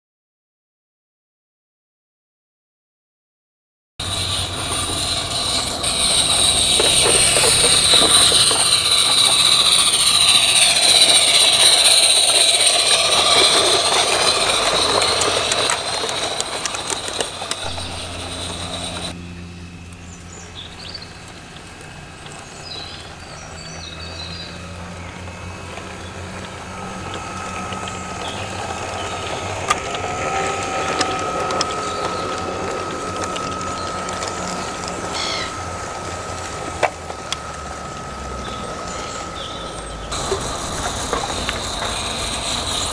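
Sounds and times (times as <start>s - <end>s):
locomotive low hum: 4.0s - 42.9s
model locomotive running: 4.0s - 42.9s
thin whine: 4.0s - 42.9s
wheels clicking over track: 4.0s - 42.9s.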